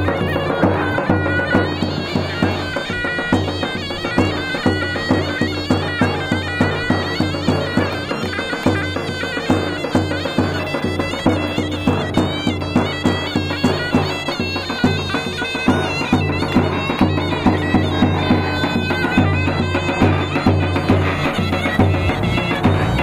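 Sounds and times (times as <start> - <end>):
reedy wind melody: 0.0 - 23.0.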